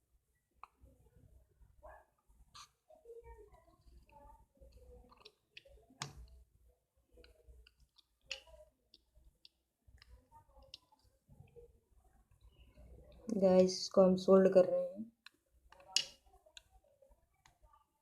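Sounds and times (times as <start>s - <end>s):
faint clicks and taps: 0.5s - 1.0s, 1.8s - 13.8s, 15.2s - 18.0s.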